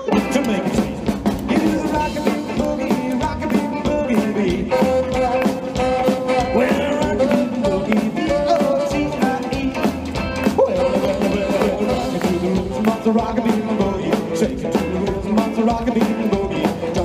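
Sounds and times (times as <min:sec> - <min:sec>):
live rock and roll band: 0:00.0 - 0:17.0.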